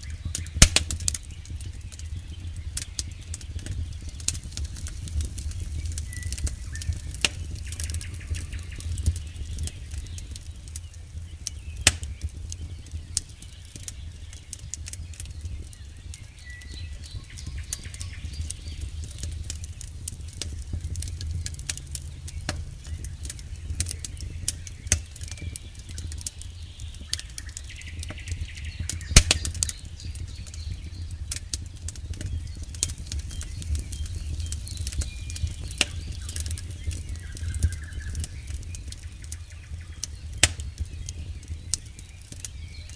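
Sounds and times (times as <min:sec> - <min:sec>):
low rumble: 0:00.0 - 0:13.6, 0:15.3 - 0:41.9
campfire crackling: 0:00.0 - 0:42.9
loud fire pop: 0:00.2 - 0:10.8, 0:11.4 - 0:15.8, 0:16.6 - 0:42.7.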